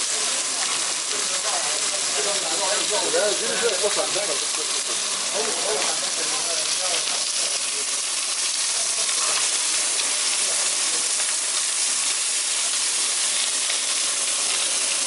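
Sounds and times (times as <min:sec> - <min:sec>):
fish sizzling on a grill: 0:00.0 - 0:15.0.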